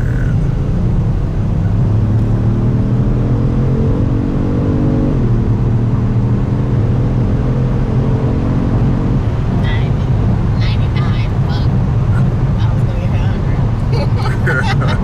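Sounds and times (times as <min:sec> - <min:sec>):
car engine accelerating: 0:00.0 - 0:15.0
road rumble: 0:00.0 - 0:15.0.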